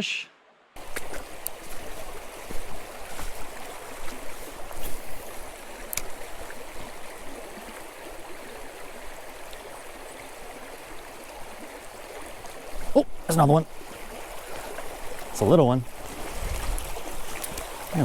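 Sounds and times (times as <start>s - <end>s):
creek water running over rocks: 0.8s - 18.0s.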